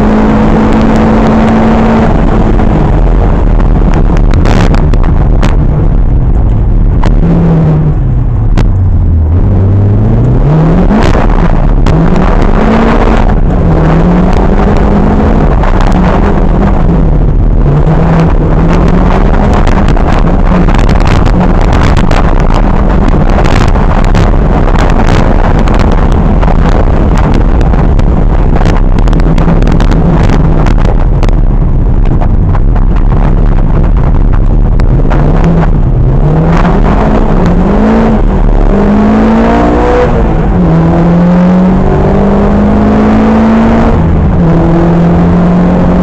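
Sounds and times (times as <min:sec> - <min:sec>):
rally car engine revving: 0:00.0 - 0:46.0
tyre and road noise: 0:00.0 - 0:46.0.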